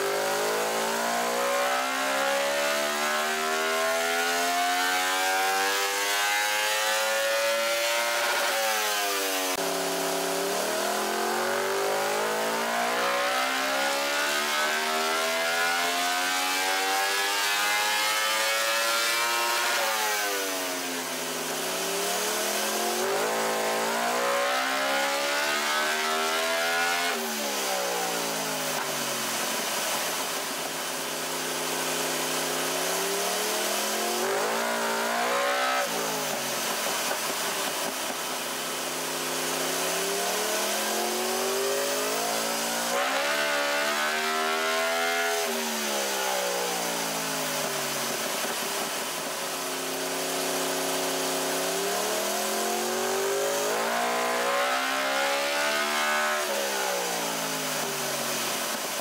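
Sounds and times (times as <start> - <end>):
motorcycle engine revving on dyno: 0.0 - 59.0.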